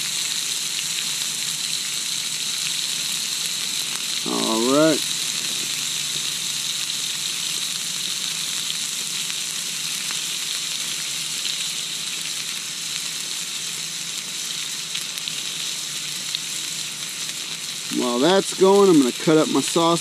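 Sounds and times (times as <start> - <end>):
bacon sizzling in skillet: 0.0 - 20.0.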